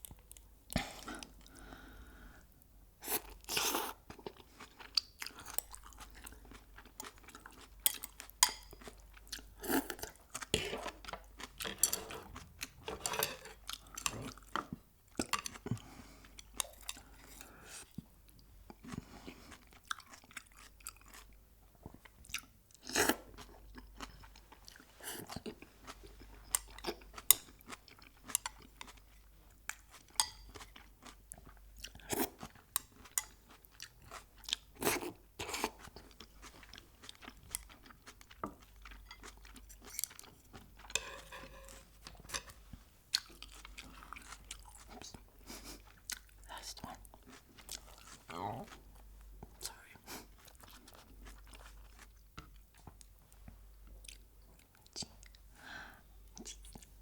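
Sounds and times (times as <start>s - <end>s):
chewing crispy fried chicken: 3.3s - 41.1s, 43.1s - 55.5s.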